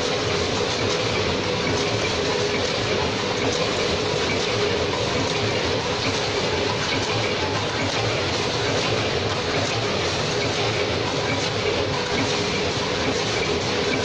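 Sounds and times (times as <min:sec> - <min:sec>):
packing machine clatter and whir: 0:00.0 - 0:14.0.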